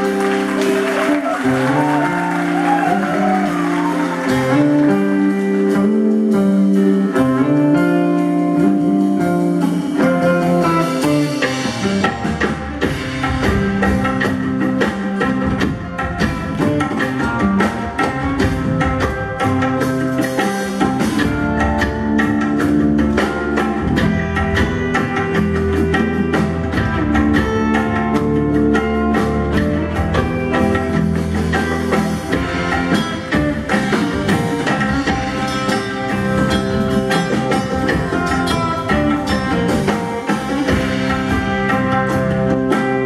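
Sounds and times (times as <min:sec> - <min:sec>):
bass guitar: 0:00.0 - 0:43.0
drums and percussion: 0:00.0 - 0:43.0
electric guitar: 0:00.0 - 0:43.0.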